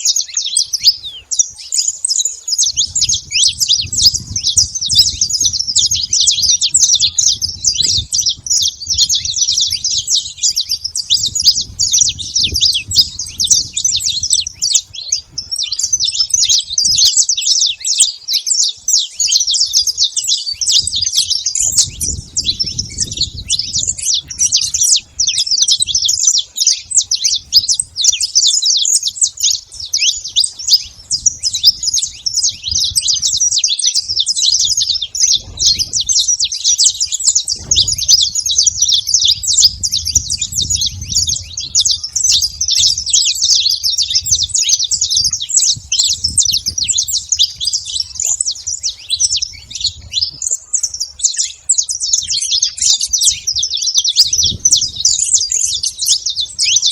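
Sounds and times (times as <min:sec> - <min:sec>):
finches chirping: 0:00.0 - 0:56.9.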